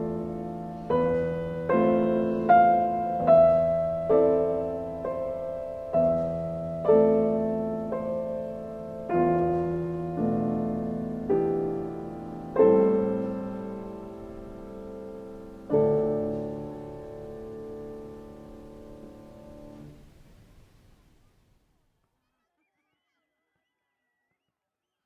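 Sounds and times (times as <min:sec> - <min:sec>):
slow piano chords: 0:00.0 - 0:20.5.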